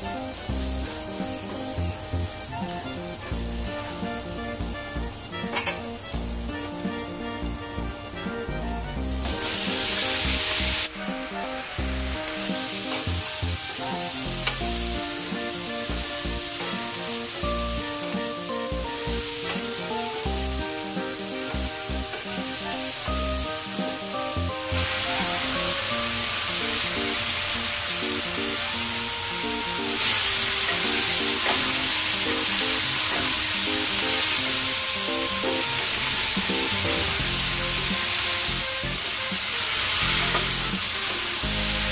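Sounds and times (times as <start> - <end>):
background music with steady beat: 0.0 - 41.9
stir-fry sizzling in a wok: 0.0 - 41.9.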